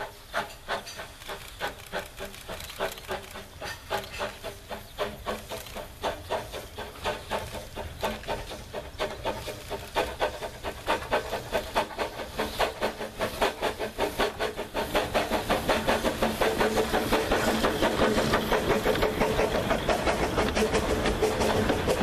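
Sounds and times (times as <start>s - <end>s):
carriages rolling with rail clicks: 0.0s - 22.0s
steam locomotive chuffing: 0.0s - 22.0s.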